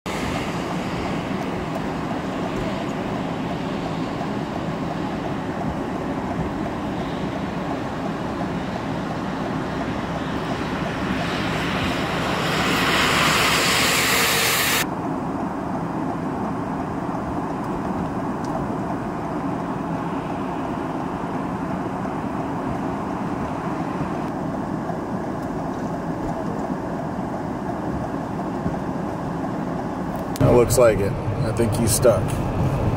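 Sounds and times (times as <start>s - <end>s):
heavy vehicle engine rumble: 0.1s - 32.9s
snowplow engine rumble: 0.1s - 32.9s.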